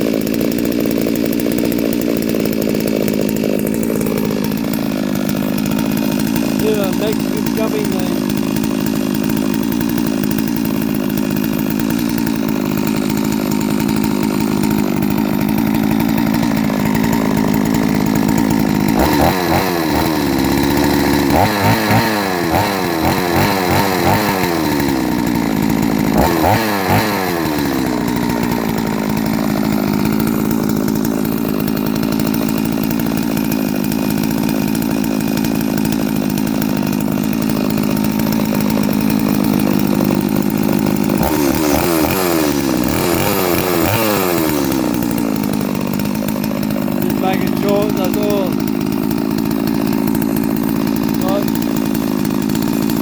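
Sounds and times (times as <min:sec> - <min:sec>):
chainsaw idling and revving: 0:00.0 - 0:53.0.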